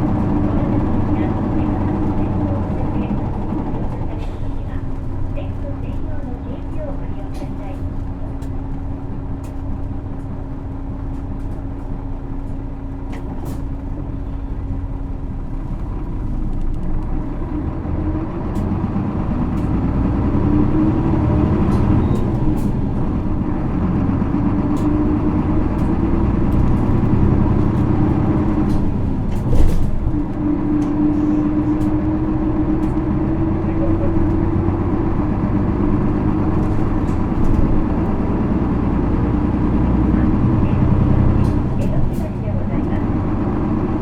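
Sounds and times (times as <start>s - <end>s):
bus diesel engine accelerating: 0.0s - 44.0s.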